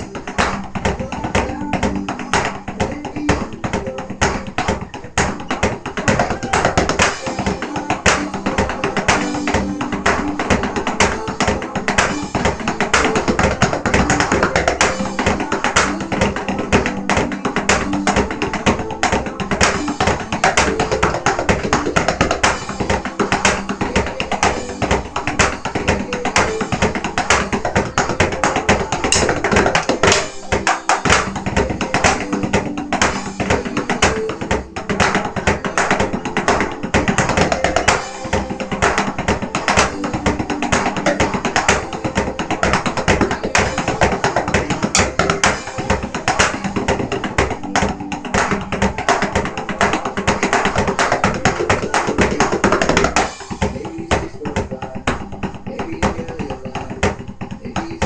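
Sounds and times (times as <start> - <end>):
backing song: 0.0 - 58.0
stick hits on electronic drum pads: 0.0 - 58.0.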